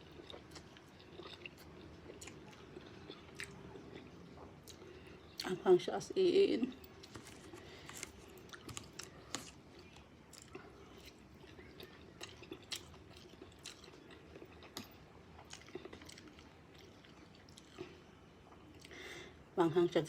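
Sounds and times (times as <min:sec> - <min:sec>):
chewing noodles: 0:00.0 - 0:05.5, 0:06.6 - 0:19.0.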